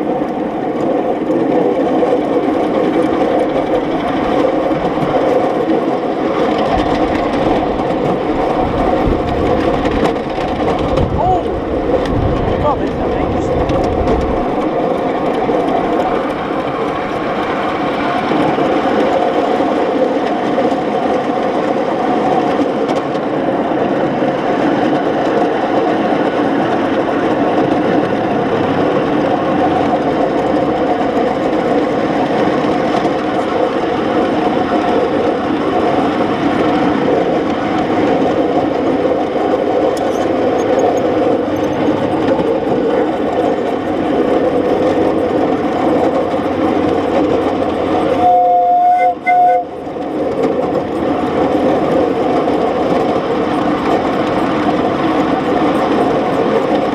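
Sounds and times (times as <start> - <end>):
steam locomotive running noise: 0.0 - 56.9.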